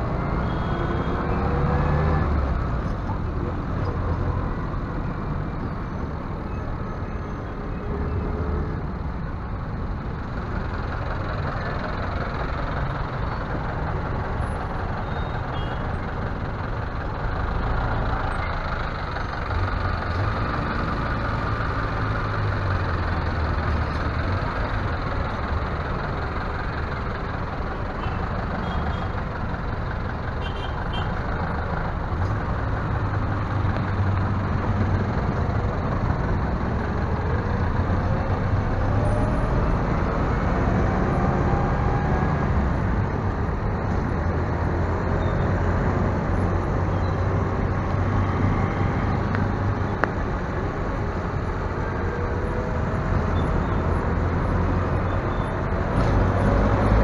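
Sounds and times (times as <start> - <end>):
road noise: 0.0 - 57.0
vehicle engine running: 9.4 - 57.0.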